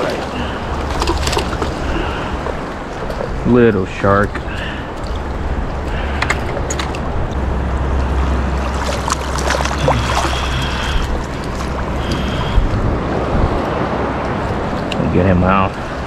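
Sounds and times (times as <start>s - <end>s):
water splashing: 0.0s - 14.9s
surf lapping: 0.0s - 16.0s
wind rumbling on microphone: 0.0s - 16.0s.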